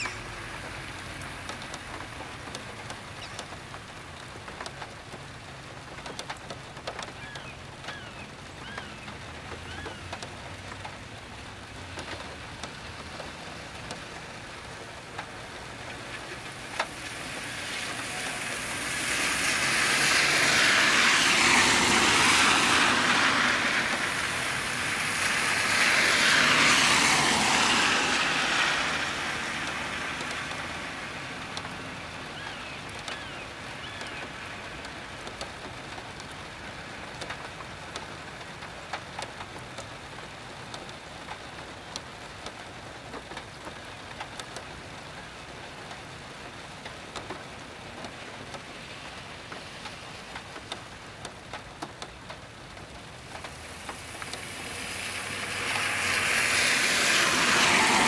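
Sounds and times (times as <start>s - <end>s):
raindrops ticking: 0.0s - 58.0s
steady rain falling: 0.0s - 58.0s.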